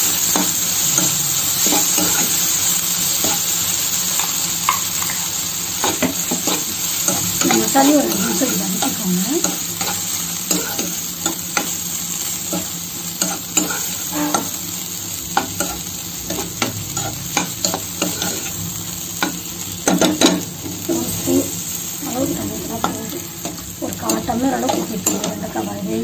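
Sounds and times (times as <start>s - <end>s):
okra sizzling in oil: 0.0s - 26.0s.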